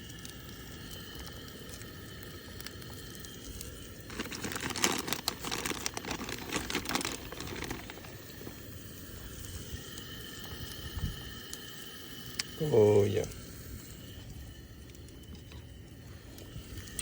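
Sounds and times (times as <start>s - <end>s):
crackly rustling with small clicks: 0.0s - 12.6s, 13.3s - 17.0s.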